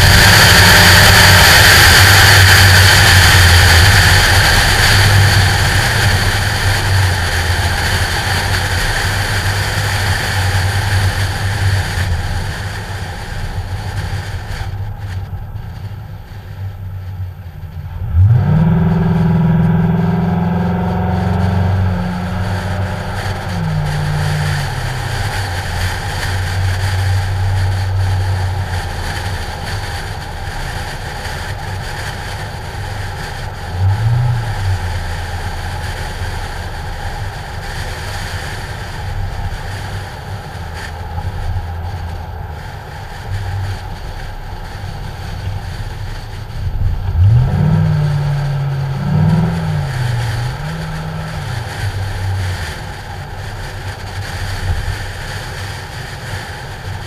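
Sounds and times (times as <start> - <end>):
car engine and exhaust revving: 0.0 - 57.0
wind noise: 0.0 - 57.0.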